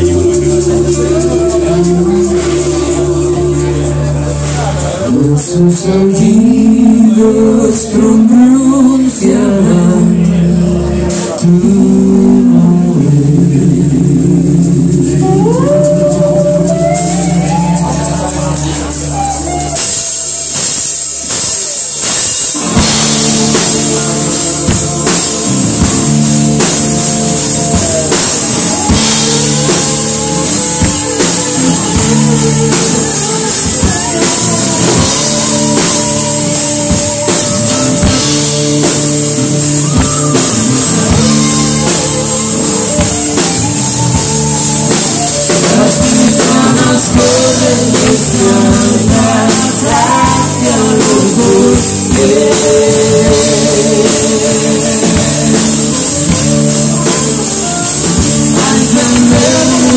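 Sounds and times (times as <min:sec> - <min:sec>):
bass guitar: 0:00.0 - 0:59.9
drum kit: 0:00.0 - 0:59.9
electric guitars: 0:00.0 - 0:59.9
person singing: 0:00.0 - 0:59.9.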